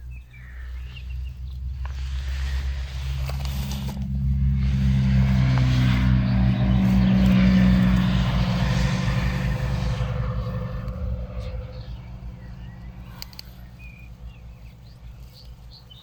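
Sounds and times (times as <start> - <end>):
vehicle engine passing by: 0.0 - 16.0.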